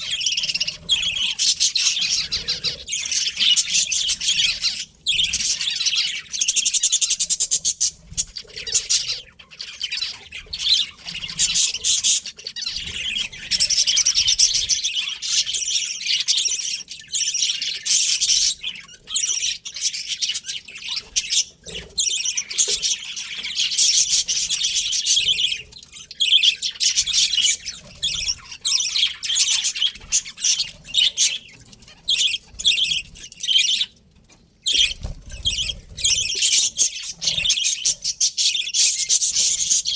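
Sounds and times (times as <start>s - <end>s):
budgerigars chirping: 0.0s - 34.0s, 34.6s - 39.9s.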